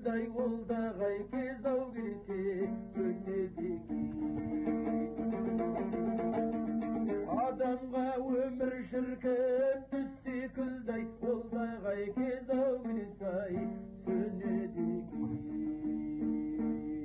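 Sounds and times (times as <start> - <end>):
man singing with vibrato: 0.0 - 17.0
plucked lute: 0.0 - 17.0.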